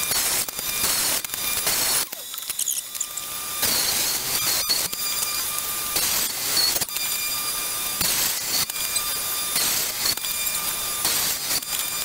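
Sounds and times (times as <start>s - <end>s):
table saw cutting plywood: 0.0s - 12.0s.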